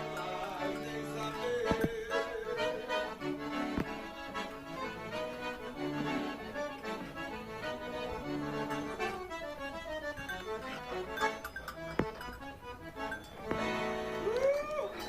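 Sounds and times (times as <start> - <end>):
accordion folk melody: 0.0 - 15.0.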